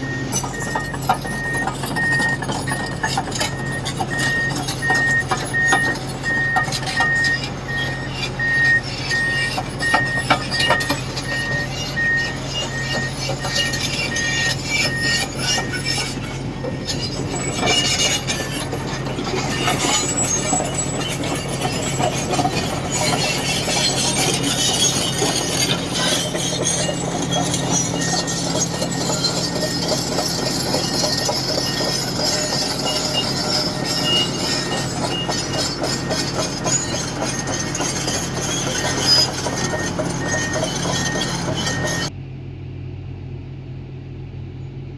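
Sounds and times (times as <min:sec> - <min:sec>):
reversing alarm beeping: 0:00.0 - 0:42.1
heavy machinery engine drone: 0:00.0 - 0:44.9
metallic clanks: 0:00.3 - 0:42.1.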